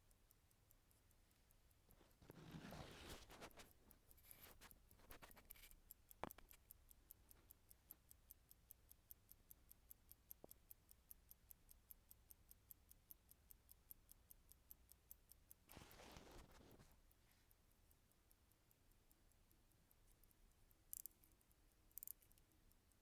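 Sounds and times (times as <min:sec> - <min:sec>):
mechanical watch ticking: 0:00.0 - 0:23.0.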